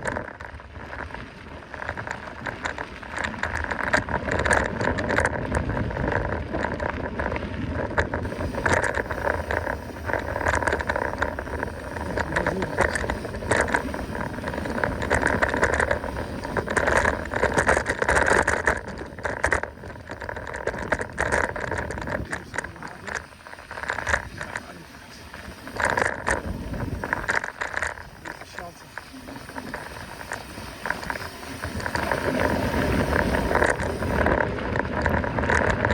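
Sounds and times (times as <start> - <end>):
bike rattling over bumps: 0.0 - 35.9
bike tyres on dirt: 0.0 - 35.9.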